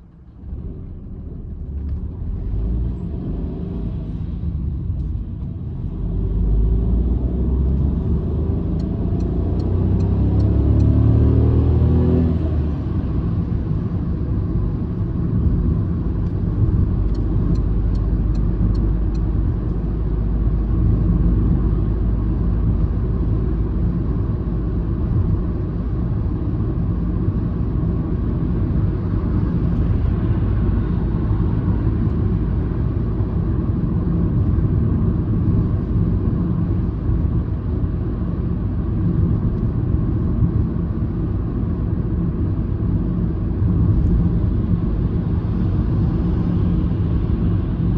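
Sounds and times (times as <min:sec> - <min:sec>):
car engine droning in cabin: 0:00.0 - 0:47.9
tyres on road: 0:00.0 - 0:47.9.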